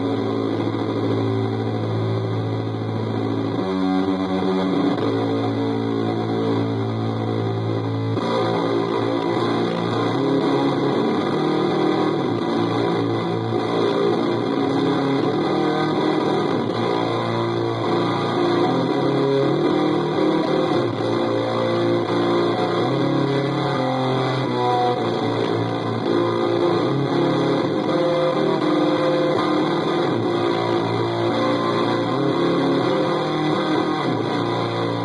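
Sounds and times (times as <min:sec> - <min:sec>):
distorted electric guitar riffing: 0:00.0 - 0:35.0.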